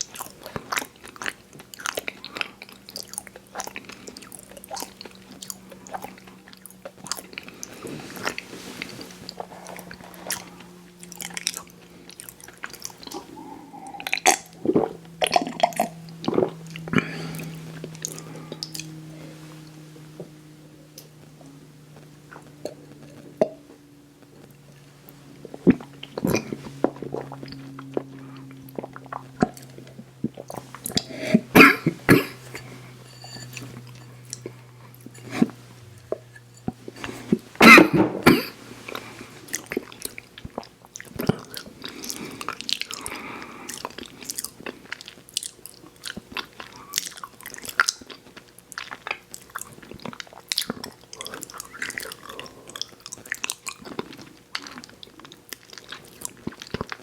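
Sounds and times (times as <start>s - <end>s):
person chewing sweets: 0.0s - 37.6s, 38.8s - 57.0s.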